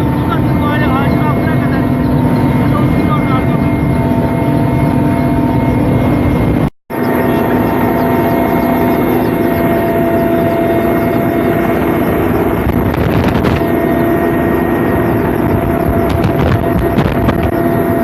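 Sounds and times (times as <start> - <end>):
loud engine drone: 0.0 - 18.0.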